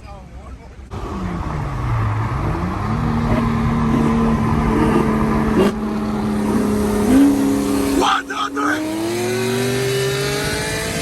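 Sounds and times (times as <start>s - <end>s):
car engine running loud: 0.9s - 11.0s.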